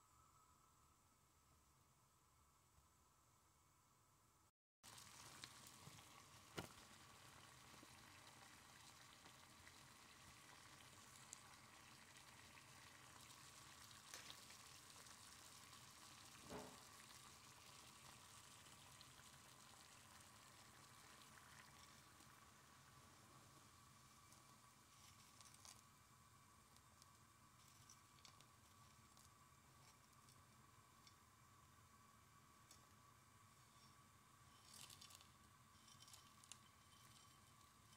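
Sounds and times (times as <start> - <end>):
water boiling in a saucepan: 4.8 - 37.9.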